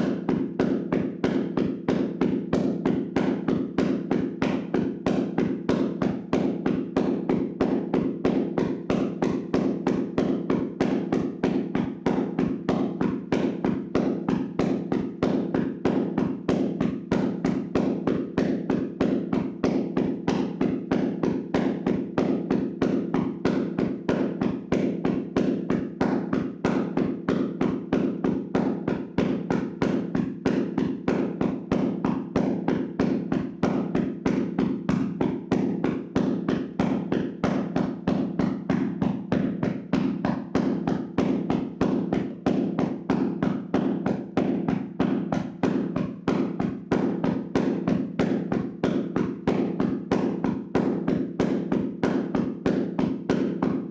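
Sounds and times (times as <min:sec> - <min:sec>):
hands slapping on a body: 0:00.0 - 0:53.7.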